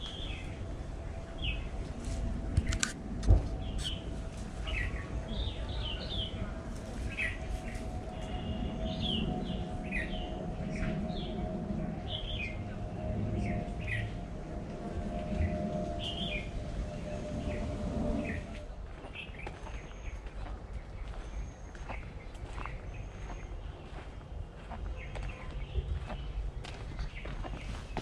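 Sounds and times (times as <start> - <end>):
wild birds chirping: 0.0 - 1.9, 3.5 - 28.0
steady hum: 0.0 - 28.0.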